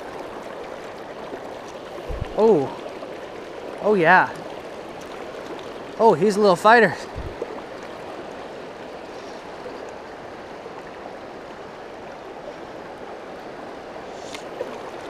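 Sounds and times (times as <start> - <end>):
water flowing over rocks: 0.0 - 15.0.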